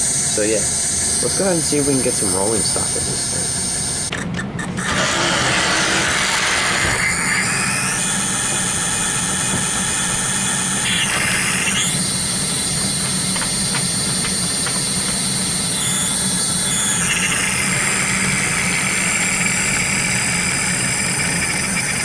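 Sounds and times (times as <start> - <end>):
model train motor whining: 0.0 - 22.0.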